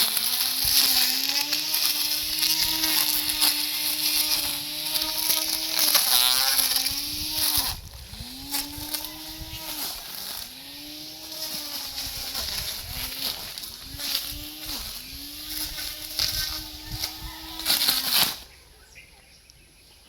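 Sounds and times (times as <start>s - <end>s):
lawn mower engine cutting grass: 0.0s - 18.6s.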